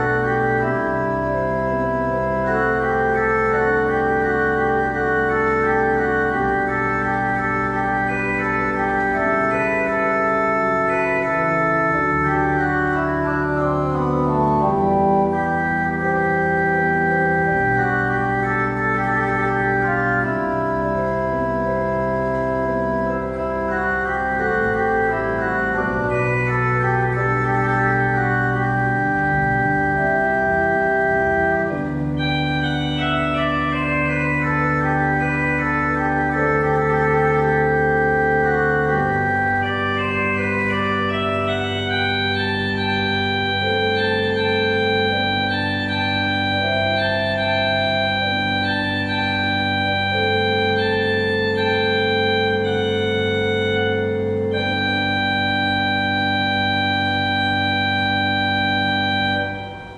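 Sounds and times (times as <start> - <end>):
organ chorale prelude: 0.0 - 59.9.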